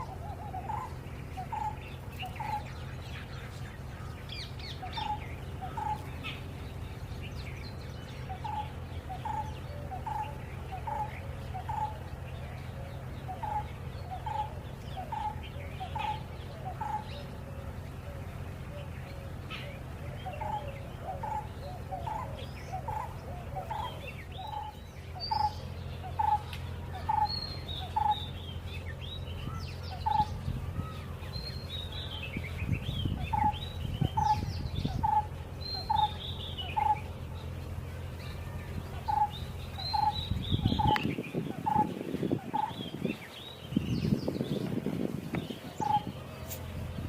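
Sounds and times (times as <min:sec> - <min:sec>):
birds chirping: 0:00.0 - 0:47.0
steady low hum: 0:00.0 - 0:47.0.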